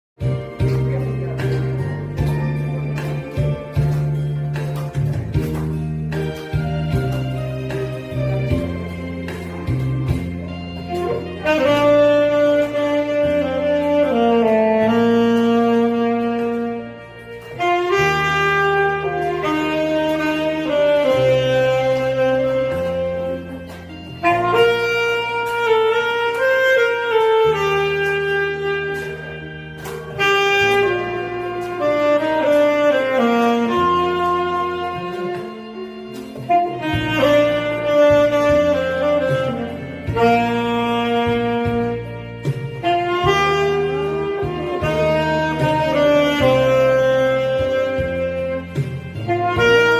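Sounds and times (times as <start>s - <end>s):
saxophone slow melody: 0.2s - 49.9s
steady bass notes: 0.2s - 49.9s.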